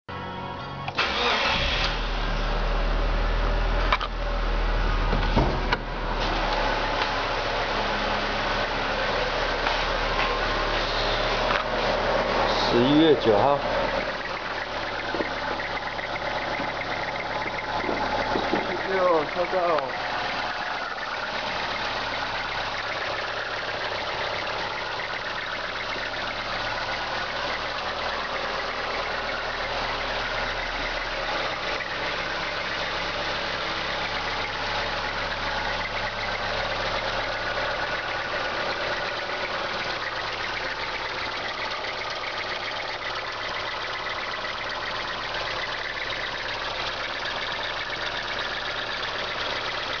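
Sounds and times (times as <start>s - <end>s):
car engine idling: 0.1s - 50.0s.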